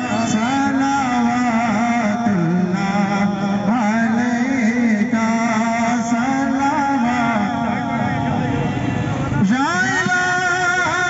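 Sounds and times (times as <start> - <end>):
person singing through loudspeaker: 0.0 - 11.0.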